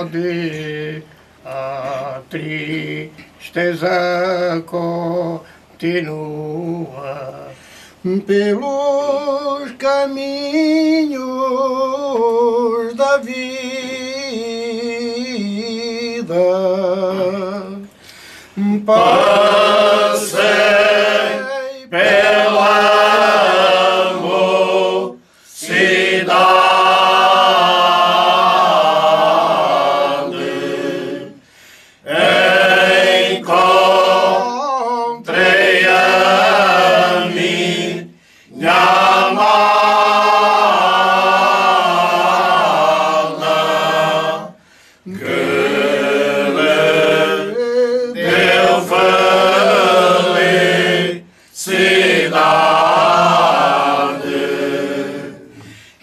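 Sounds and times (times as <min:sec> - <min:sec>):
unaccompanied male choir singing: 0:00.0 - 0:17.8, 0:18.6 - 0:55.8.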